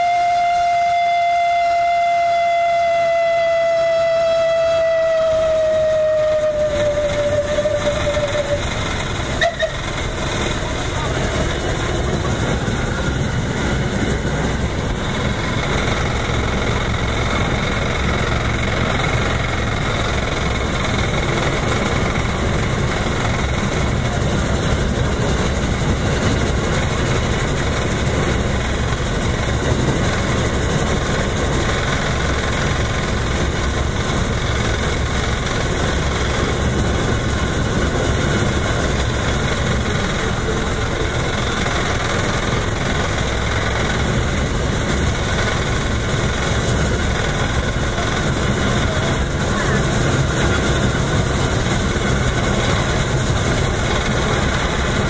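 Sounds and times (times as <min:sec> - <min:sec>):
steam locomotive rumbling: 0:00.0 - 0:55.0.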